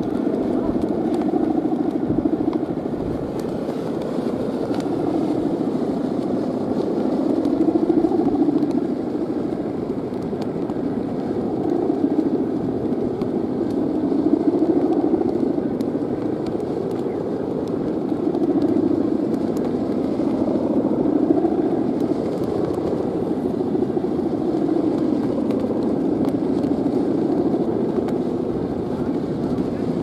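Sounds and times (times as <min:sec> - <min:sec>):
kite hummer buzzing drone: 0:00.0 - 0:30.0.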